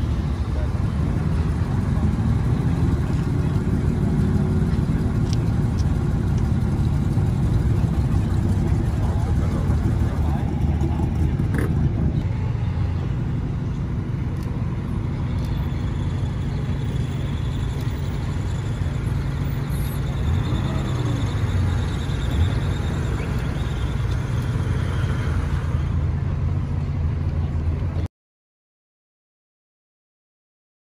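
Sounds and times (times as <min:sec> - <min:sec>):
car engines idling: 0:00.0 - 0:28.1.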